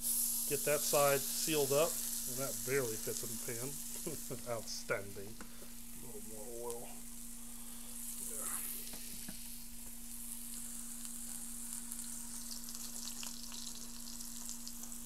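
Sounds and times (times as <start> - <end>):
steady low hum: 0.0 - 13.3
oil sizzling in skillet: 0.0 - 15.0.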